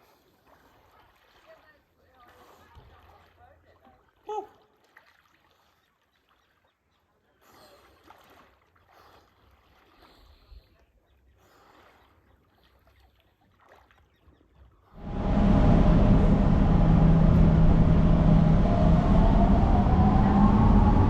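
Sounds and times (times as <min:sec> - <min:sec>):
sea water lapping: 0:00.0 - 0:19.4.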